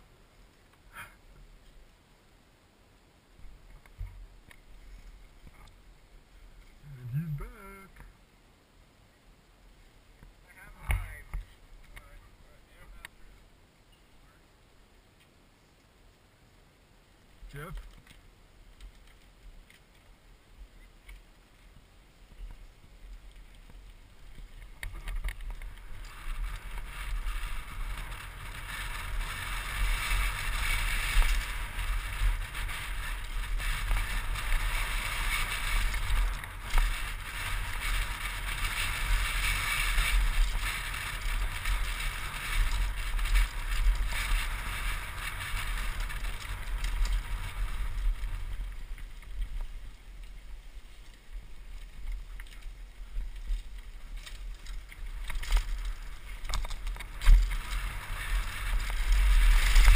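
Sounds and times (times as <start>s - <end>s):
bike tyres on loose gravel: 0.0s - 8.3s, 9.4s - 13.6s, 15.6s - 59.9s.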